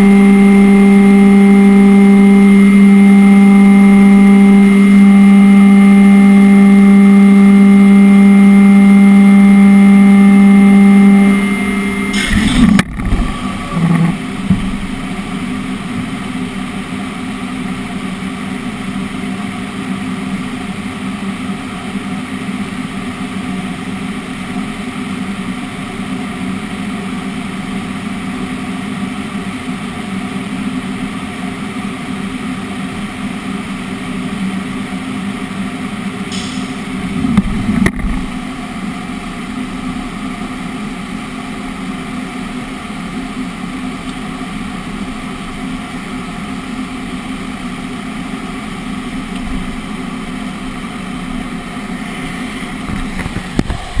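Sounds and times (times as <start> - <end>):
machine running with mechanical hum: 0.0 - 54.0.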